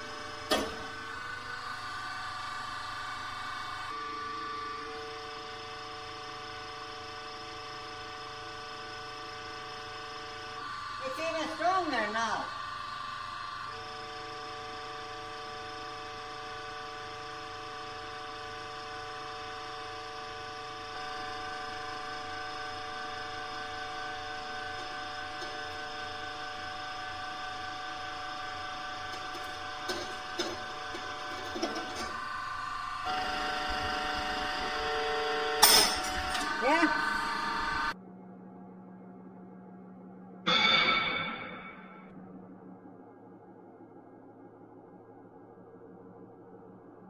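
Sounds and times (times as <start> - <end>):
hydraulic press whining: 0.0 - 38.0.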